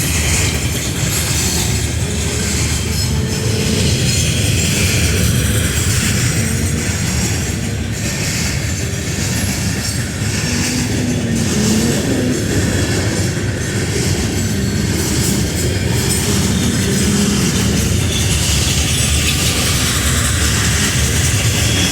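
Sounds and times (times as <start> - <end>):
freight train rolling past: 0.0 - 21.9.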